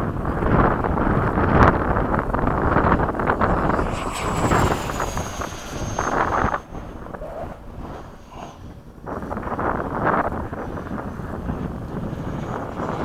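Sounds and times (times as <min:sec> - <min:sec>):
electric ducted fan whine: 0:00.0 - 0:13.0
wind buffeting microphone: 0:00.0 - 0:13.0.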